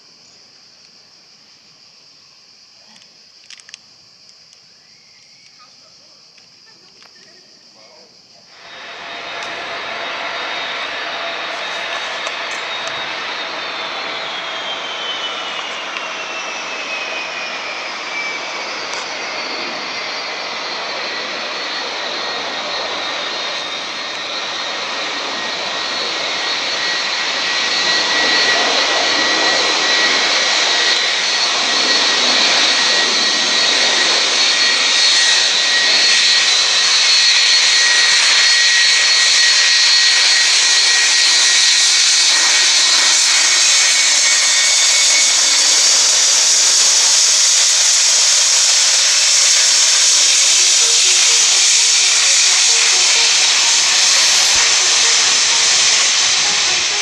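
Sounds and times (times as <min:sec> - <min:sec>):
jet engines running: 0:08.2 - 0:57.0
high whine: 0:08.5 - 0:57.0.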